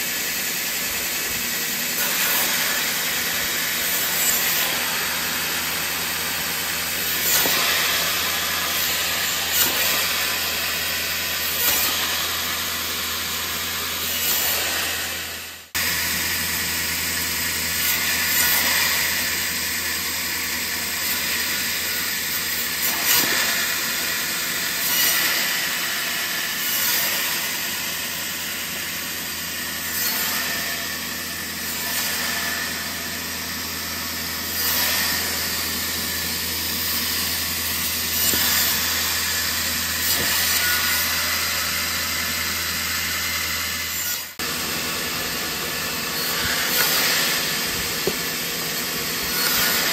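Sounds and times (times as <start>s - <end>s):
band saw cutting wood: 0.0s - 49.9s.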